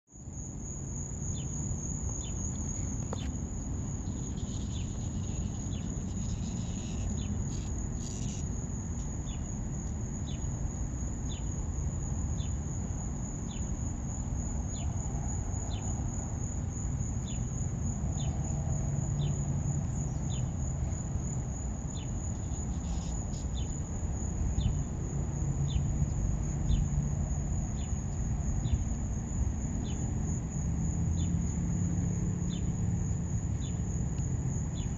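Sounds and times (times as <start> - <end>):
insect high-pitched trill: 0.1 - 34.9
insect low chirp: 0.1 - 34.9.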